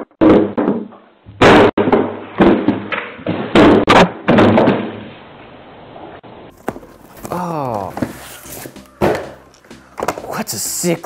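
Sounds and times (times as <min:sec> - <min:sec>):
parcel thuds and bangs: 0:00.0 - 0:05.1, 0:06.6 - 0:10.4.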